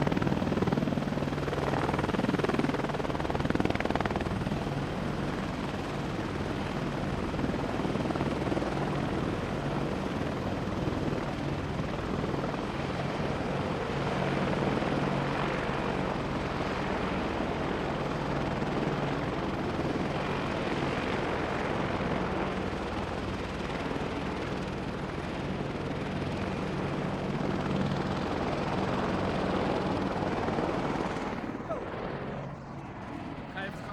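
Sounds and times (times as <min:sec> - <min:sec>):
helicopter rotor beat: 0:00.0 - 0:33.9.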